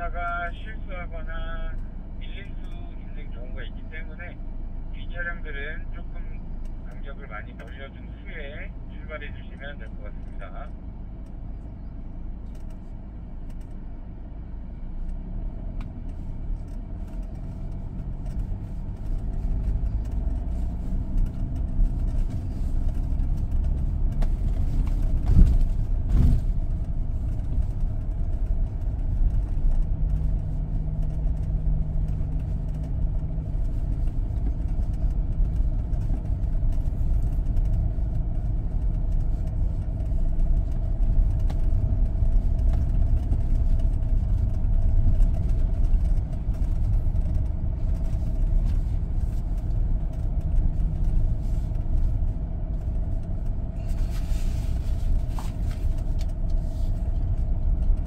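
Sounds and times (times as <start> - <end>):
diesel engine pulling uphill: 0.0 - 58.0.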